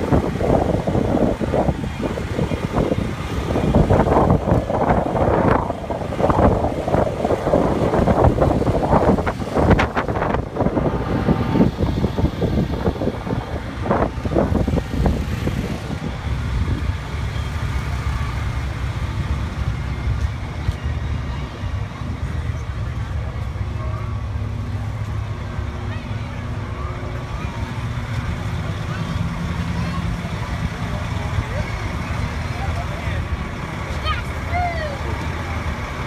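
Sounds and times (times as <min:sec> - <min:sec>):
fire truck engine rumble: 0:00.0 - 0:36.0.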